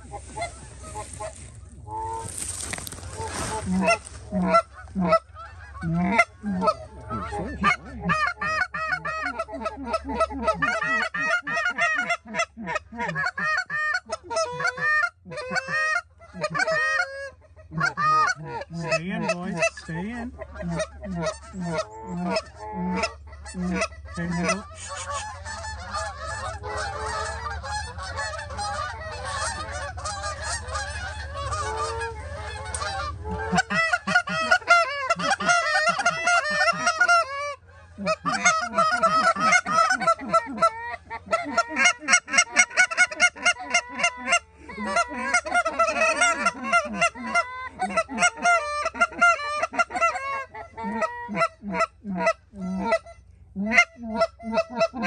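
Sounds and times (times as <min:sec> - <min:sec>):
geese honking and clucking: 0:00.0 - 0:55.0.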